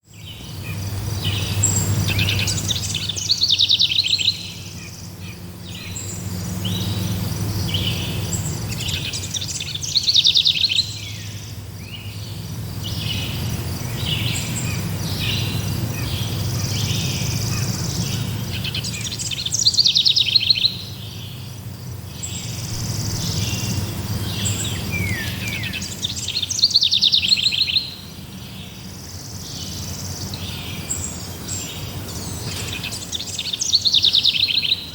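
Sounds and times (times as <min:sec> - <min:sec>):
bird singing rapid phrase: 0:00.0 - 0:34.9
birds chirping: 0:00.0 - 0:34.9.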